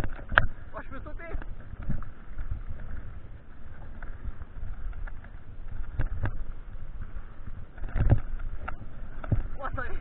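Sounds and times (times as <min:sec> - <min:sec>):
bike tyres rumbling on rough trail: 0:00.0 - 0:10.0.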